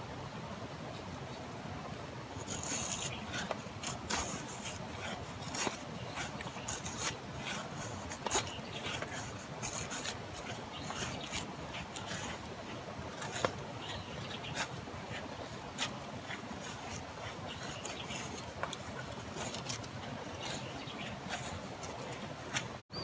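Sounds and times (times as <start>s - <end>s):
steady background hiss: 0.0s - 22.8s
scraping and rubbing strokes: 2.3s - 22.8s.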